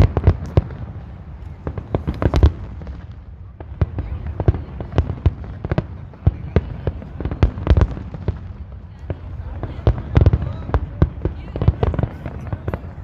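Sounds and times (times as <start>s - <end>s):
fireworks bangs and crackles: 0.0s - 13.0s
low rumble of explosions: 0.0s - 13.0s.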